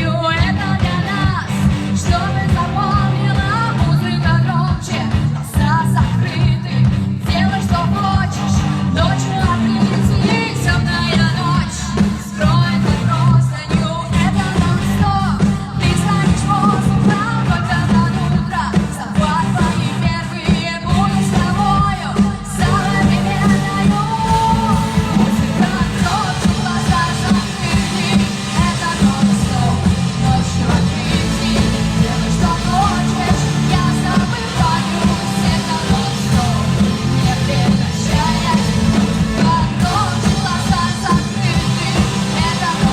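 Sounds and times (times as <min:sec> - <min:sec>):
drums: 0:00.0 - 0:42.9
guitars: 0:00.0 - 0:42.9
heavy bass line: 0:00.0 - 0:42.9
person singing: 0:00.0 - 0:42.9.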